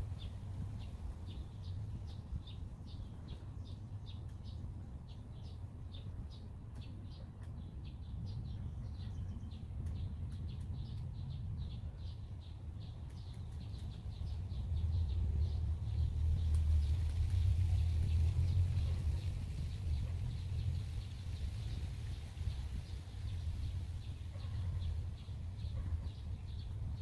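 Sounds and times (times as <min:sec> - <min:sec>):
songbird chirping: 0:00.0 - 0:27.0
steady low rumble: 0:00.0 - 0:27.0.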